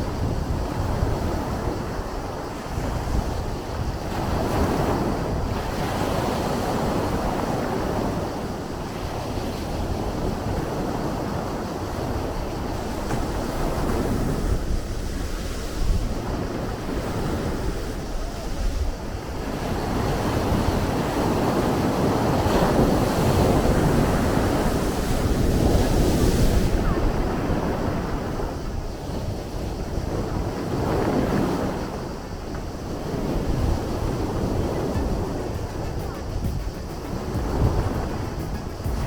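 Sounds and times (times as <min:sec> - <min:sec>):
sea waves washing on shore: 0:00.0 - 0:39.0
wind buffeting microphone: 0:00.0 - 0:39.0.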